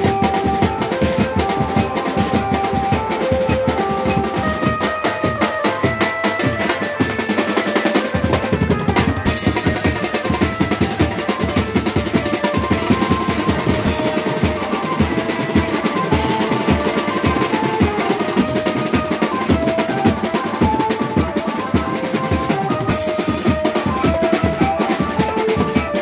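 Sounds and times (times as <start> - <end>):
band playing: 0.0 - 26.0
fast snare drumming: 0.0 - 26.0
keyboard melody: 0.0 - 26.0.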